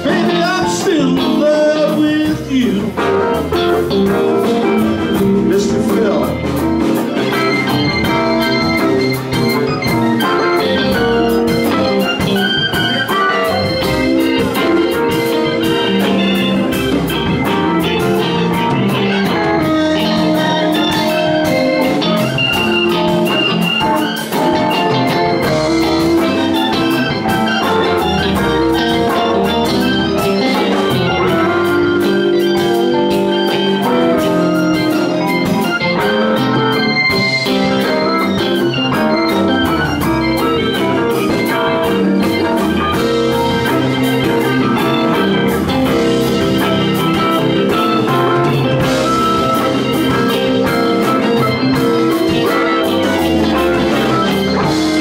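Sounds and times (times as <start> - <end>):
bass guitar: 0.0 - 55.0
drum kit: 0.0 - 55.0
electric guitar: 0.0 - 55.0
keyboard organ sound: 0.0 - 55.0.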